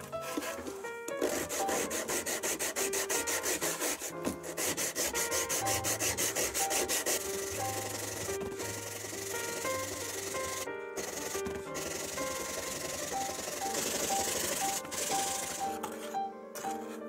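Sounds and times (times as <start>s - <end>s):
graphite scraping on sandpaper: 0.0s - 17.0s.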